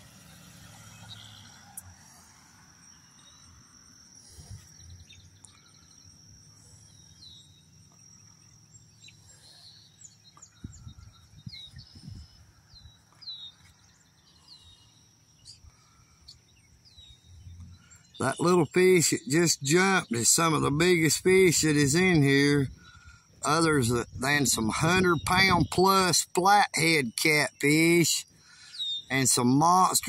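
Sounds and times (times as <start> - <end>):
high insect drone: 0.0 - 30.0.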